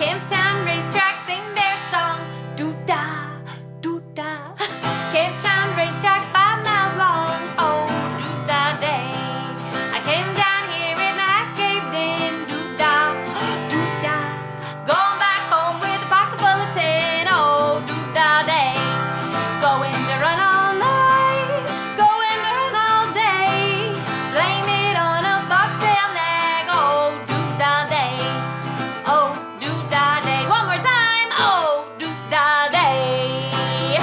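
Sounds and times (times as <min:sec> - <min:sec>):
person singing: 0:00.0 - 0:34.0
strummed acoustic guitar: 0:00.0 - 0:34.0.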